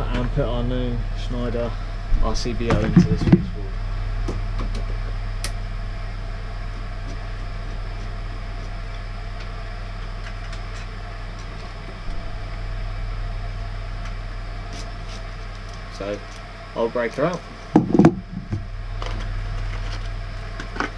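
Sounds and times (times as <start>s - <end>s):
low mains hum: 0.0s - 20.9s.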